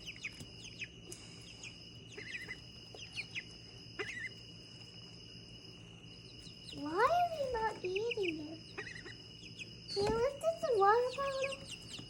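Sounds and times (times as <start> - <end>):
bird warbling trill: 0.0 - 4.6, 6.1 - 12.0
birds chirping: 0.0 - 12.0.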